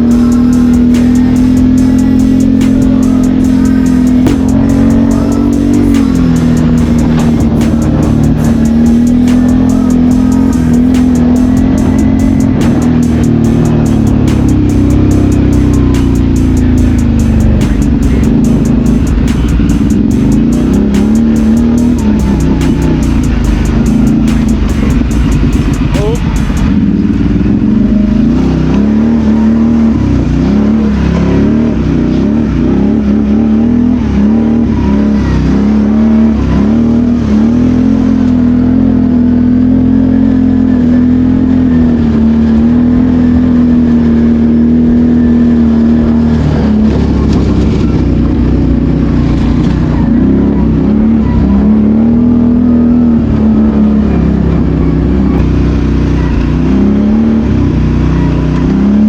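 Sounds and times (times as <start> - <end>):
quad bike engine under load: 0.0 - 59.0.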